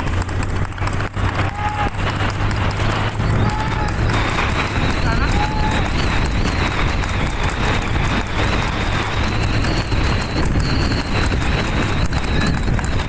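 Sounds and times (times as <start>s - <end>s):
faint hoofbeats: 0.0s - 13.0s
road noise: 0.0s - 13.0s
rushing wind: 0.0s - 13.0s
sulky wheel noise: 0.0s - 13.0s.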